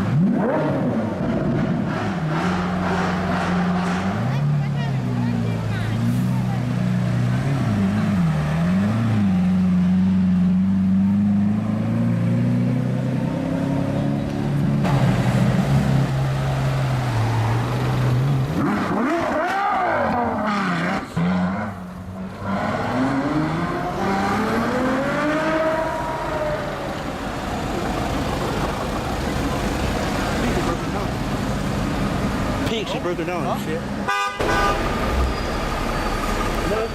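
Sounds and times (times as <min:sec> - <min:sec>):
car accelerating: 0:00.0 - 0:34.0
car engine revving: 0:00.0 - 0:36.8.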